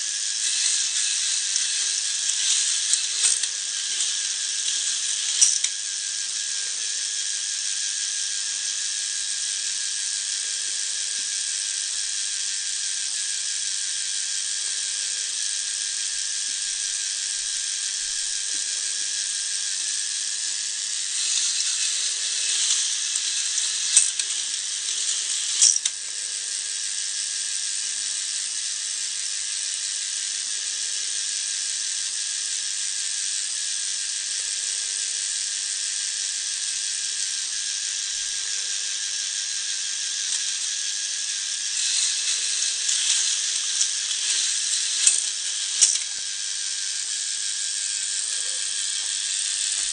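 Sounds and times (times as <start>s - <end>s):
toy chain lift whirring rattle: 0.0s - 49.9s.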